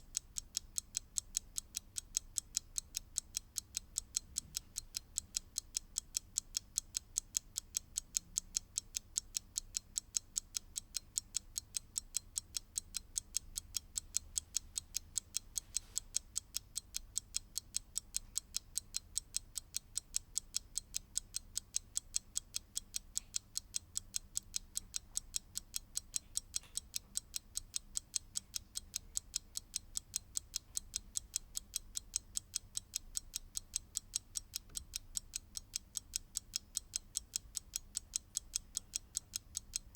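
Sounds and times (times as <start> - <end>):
mechanical clock ticking: 0.0 - 39.9.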